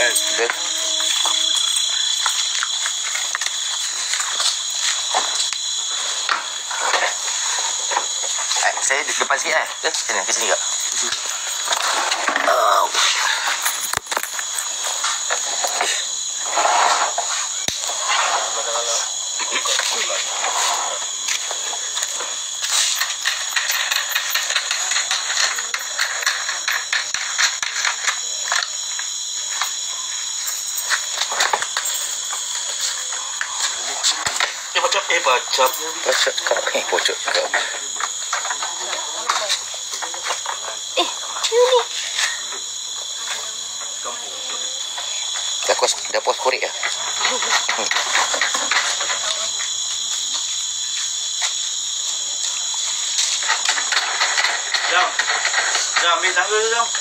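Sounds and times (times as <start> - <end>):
high-pitched hiss: 0.0 - 57.0
night insects chorus: 0.0 - 57.0.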